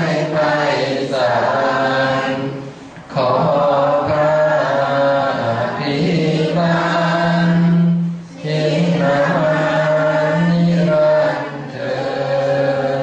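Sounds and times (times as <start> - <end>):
men and women chanting together: 0.0 - 13.0.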